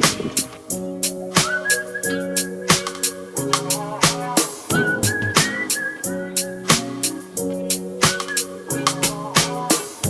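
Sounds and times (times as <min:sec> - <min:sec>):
background music with drums and chords: 0:00.0 - 0:10.0.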